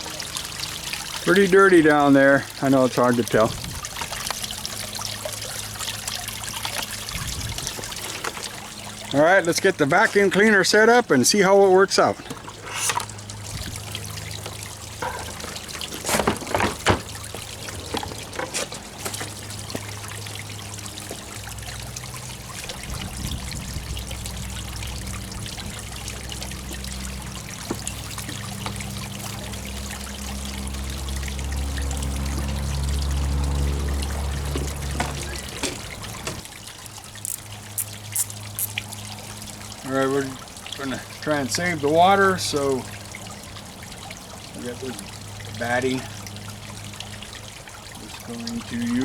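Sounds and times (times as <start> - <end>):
water trickling into pond: 0.0 - 49.0.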